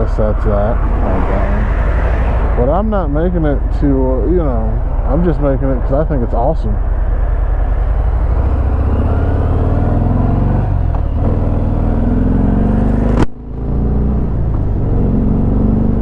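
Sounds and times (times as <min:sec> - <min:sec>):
motorcycle engine accelerating: 0:00.7 - 0:16.0.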